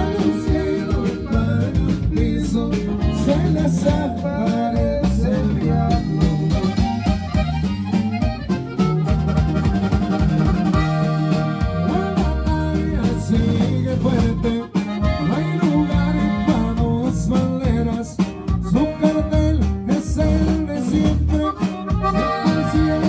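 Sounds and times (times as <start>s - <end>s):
button accordion melody: 0.0s - 23.0s
drum kit steady beat: 0.0s - 23.0s
guitar: 0.0s - 23.0s.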